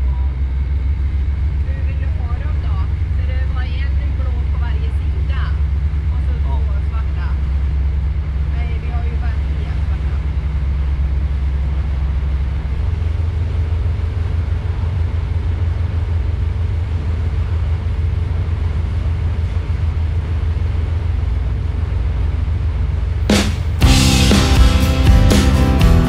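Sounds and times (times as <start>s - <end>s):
boat engines droning: 0.0s - 26.0s.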